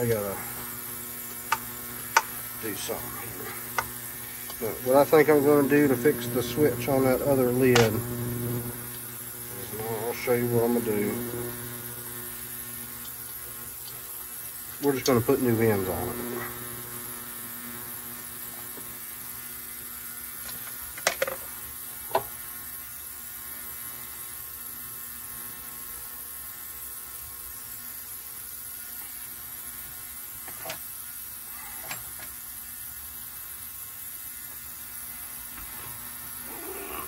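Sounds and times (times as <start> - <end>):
electrical hum: 0.0 - 37.0.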